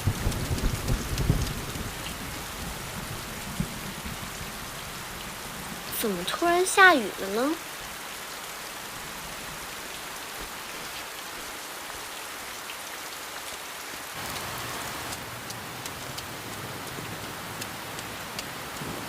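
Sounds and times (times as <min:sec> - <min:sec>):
raindrops ticking: 0:00.0 - 0:08.4, 0:12.1 - 0:19.0
steady rain falling: 0:00.0 - 0:19.0.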